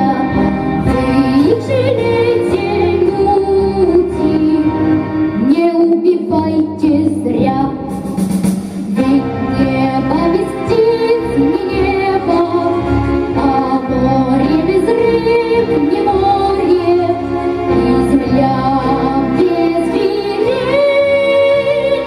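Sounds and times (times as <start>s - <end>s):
backing track music: 0.0s - 22.0s.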